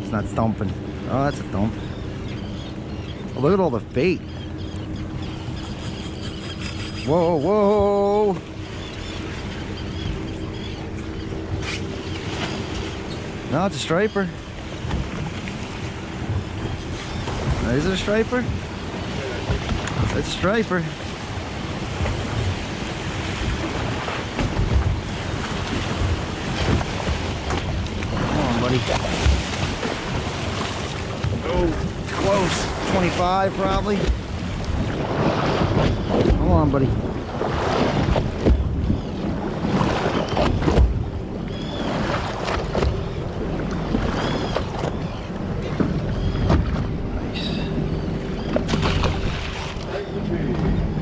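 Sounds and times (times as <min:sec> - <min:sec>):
water lapping against hull: 0:00.0 - 0:51.0
wind buffeting microphone: 0:07.7 - 0:51.0.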